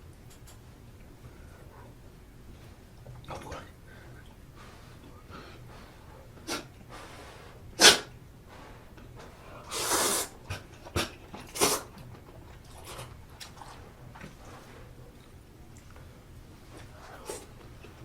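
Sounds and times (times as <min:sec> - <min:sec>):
mouth and breath eating sounds: 0:01.3 - 0:18.0.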